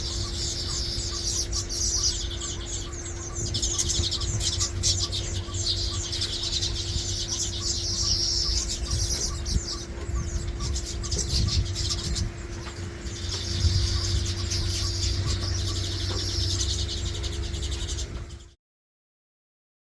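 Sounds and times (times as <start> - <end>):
flock of birds twittering: 0.0 - 18.6
steady low hum: 0.0 - 18.6.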